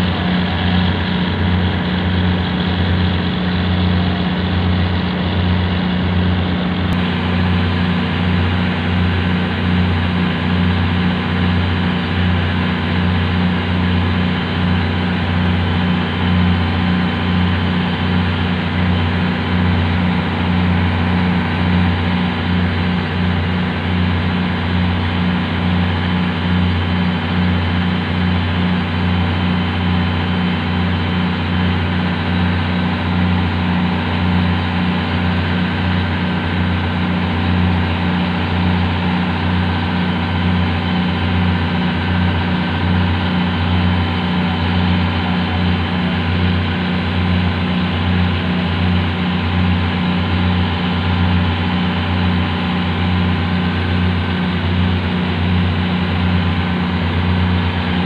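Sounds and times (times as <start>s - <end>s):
boat engine throbbing: 0.0s - 58.0s.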